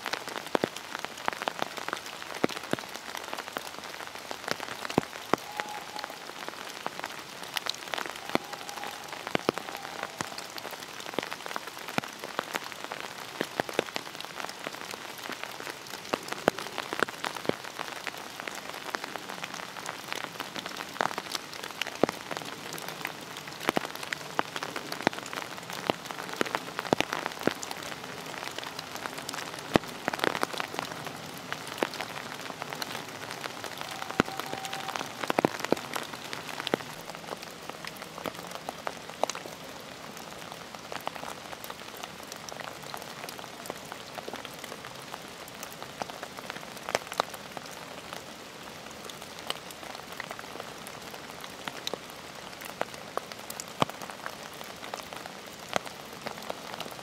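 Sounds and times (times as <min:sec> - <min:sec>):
rain pattering on leaves: 0:00.0 - 0:57.0.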